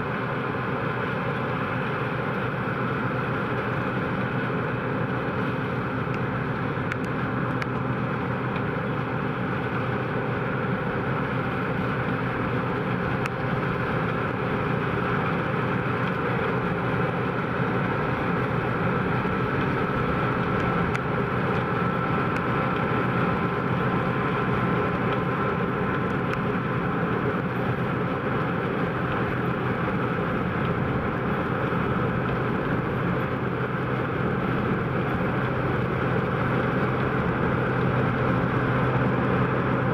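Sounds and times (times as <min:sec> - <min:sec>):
combine harvester engine hum: 0:00.0 - 0:39.9
faint high machinery whine: 0:00.0 - 0:39.9.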